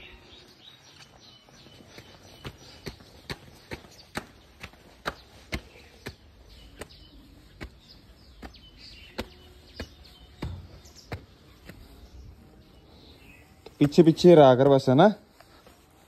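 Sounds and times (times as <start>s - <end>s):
footsteps on concrete: 0.0s - 16.0s.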